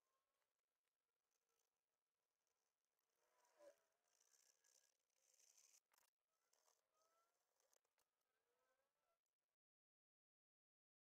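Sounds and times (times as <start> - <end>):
faint clicks and scratches on plastic: 0.1 - 9.2.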